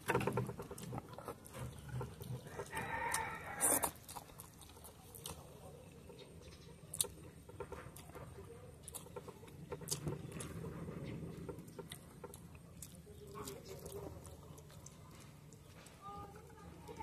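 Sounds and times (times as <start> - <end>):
noodles chewed and slurped: 0.0 - 17.0.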